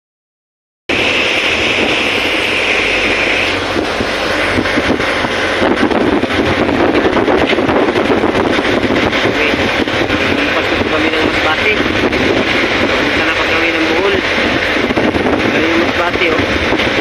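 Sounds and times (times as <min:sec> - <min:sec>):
boat engine running: 0:00.9 - 0:17.0
wind buffeting microphone: 0:00.9 - 0:17.0.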